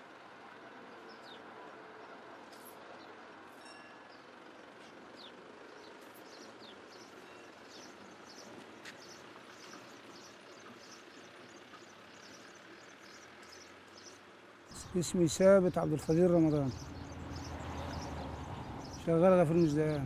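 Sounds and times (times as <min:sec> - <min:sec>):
small birds chirping: 0:00.9 - 0:03.2, 0:04.1 - 0:20.0.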